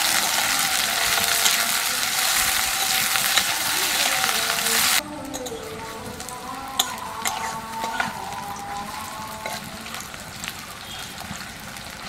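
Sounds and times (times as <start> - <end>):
metal spatula scraping a pan: 0.0 - 10.2
onions sizzling in oil: 0.0 - 12.0.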